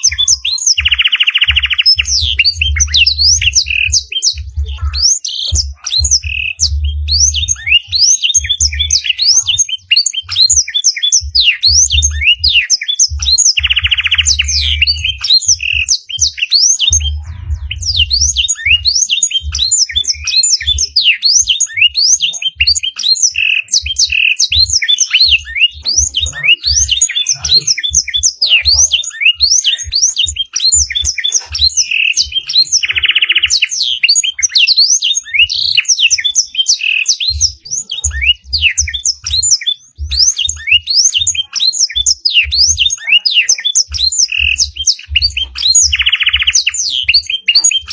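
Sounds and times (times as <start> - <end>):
canary singing chirps and whistles: 0.0 - 47.9.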